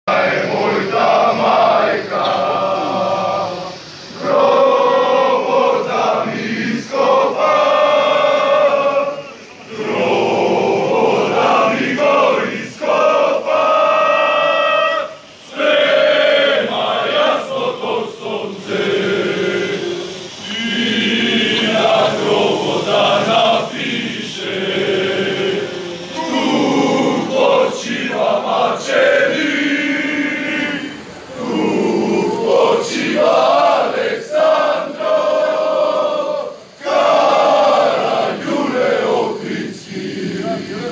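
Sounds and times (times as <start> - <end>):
men singing in unison: 0.0 - 40.9.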